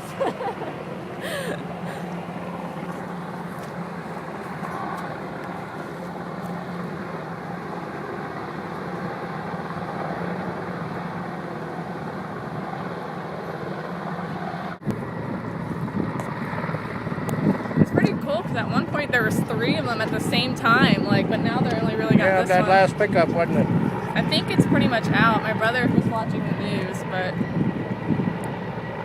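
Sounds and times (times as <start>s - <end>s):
helicopter rotor and engine drone: 0.0s - 29.0s.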